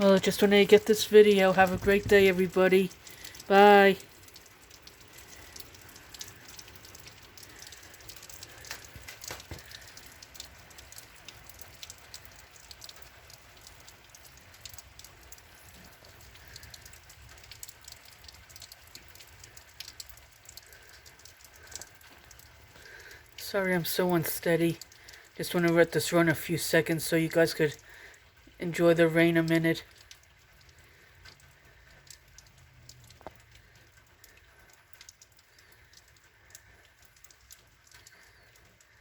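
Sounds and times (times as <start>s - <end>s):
raindrops ticking: 0.0s - 39.0s
steady rain hiss: 0.0s - 39.0s.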